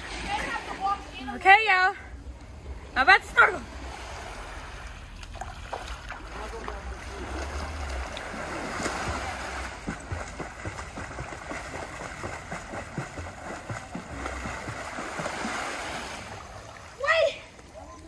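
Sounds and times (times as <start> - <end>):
seawater splashing and sloshing: 0.0 - 1.9, 2.5 - 18.0.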